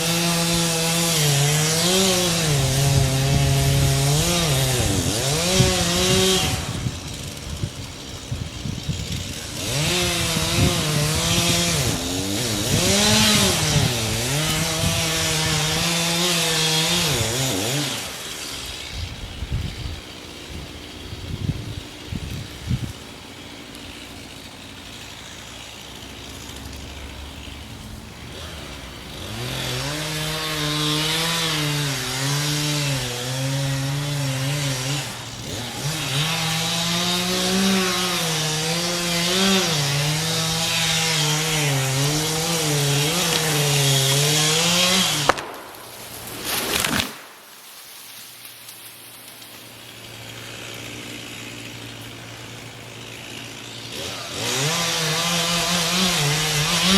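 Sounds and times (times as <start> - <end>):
chainsaw cutting into tree: 0.0 - 56.9.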